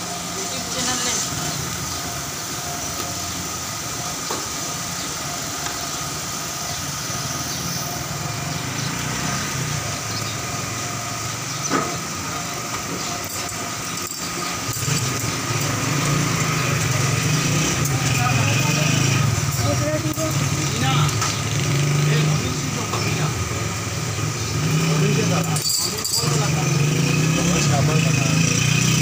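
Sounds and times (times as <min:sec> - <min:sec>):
mechanical drone with low hum: 0:00.0 - 0:25.5.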